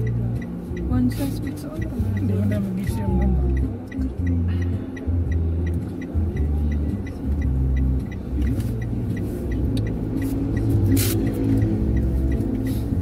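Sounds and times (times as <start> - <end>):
deep bass line: 0.0 - 13.0
even ticking: 0.0 - 13.0.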